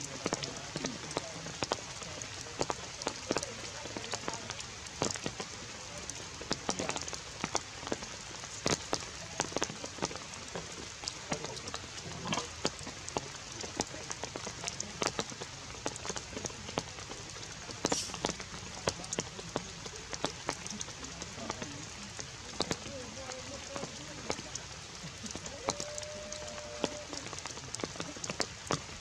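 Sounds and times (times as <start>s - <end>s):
steady outdoor hiss: 0.0s - 29.0s
sharp ticks and taps: 0.2s - 29.0s.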